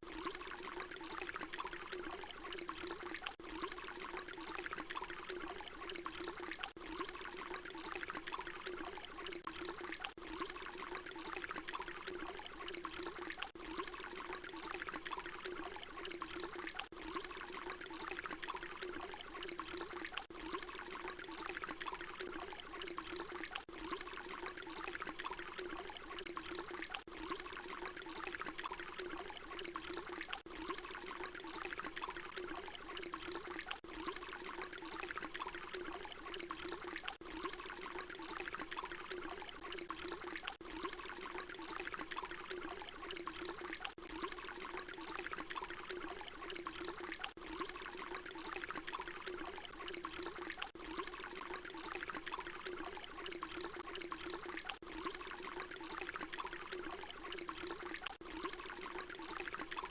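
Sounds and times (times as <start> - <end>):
water pouring: 0.0 - 59.9.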